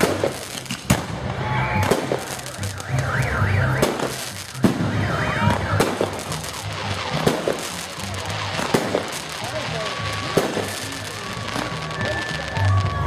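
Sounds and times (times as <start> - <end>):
fireworks bangs and crackles: 0.0 - 13.0
whistling fireworks: 0.0 - 13.0.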